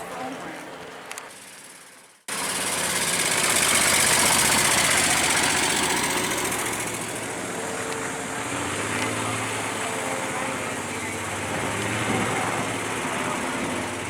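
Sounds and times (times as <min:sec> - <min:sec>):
helicopter flying by: 0:00.0 - 0:14.0.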